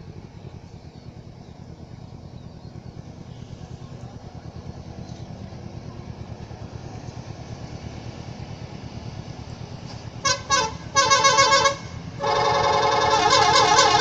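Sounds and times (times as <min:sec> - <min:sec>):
engine low pulsing rumble: 0:00.0 - 0:14.0.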